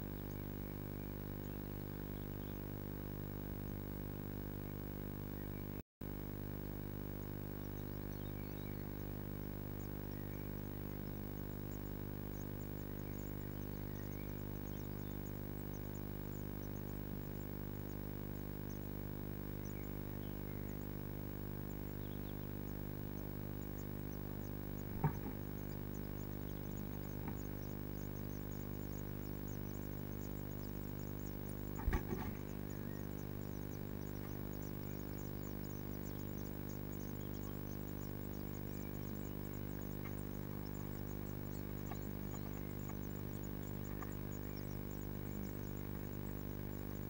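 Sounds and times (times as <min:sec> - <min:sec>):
electrical hum: 0:00.0 - 0:47.0
faint high ticks: 0:08.8 - 0:47.0.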